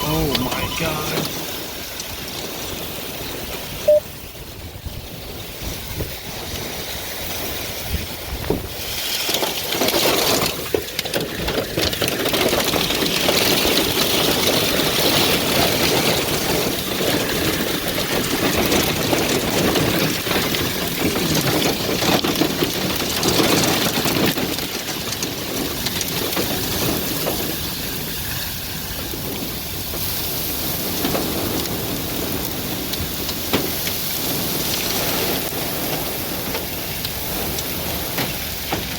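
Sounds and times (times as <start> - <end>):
heavy wind-driven rain: 0.0 - 38.9
strong wind: 0.0 - 38.9.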